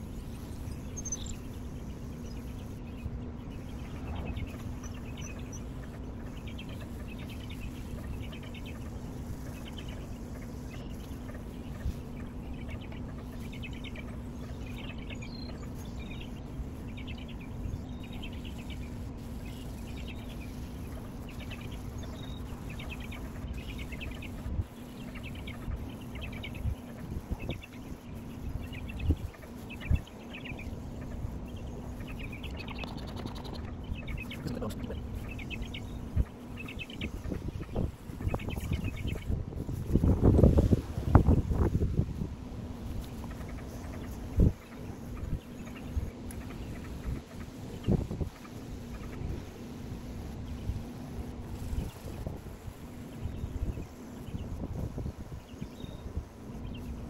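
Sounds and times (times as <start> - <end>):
birds chirping: 0.0 - 57.0
steady low hum: 0.0 - 57.0.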